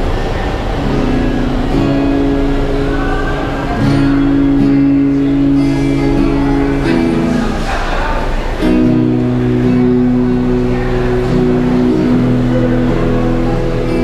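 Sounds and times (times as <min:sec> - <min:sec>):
amplified acoustic guitar chords: 0:00.0 - 0:14.0.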